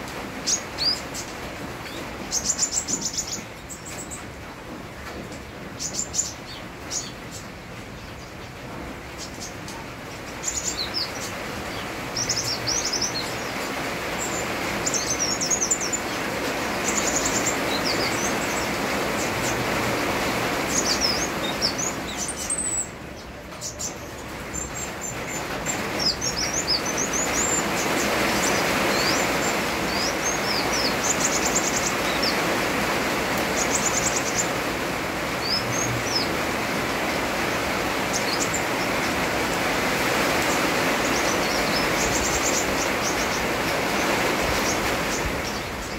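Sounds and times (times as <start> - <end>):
rain hiss: 0.0 - 45.9
sunbird chirping and trilling: 0.4 - 4.2, 9.2 - 19.7, 20.6 - 32.8, 33.4 - 34.7, 35.3 - 36.5, 37.5 - 45.9.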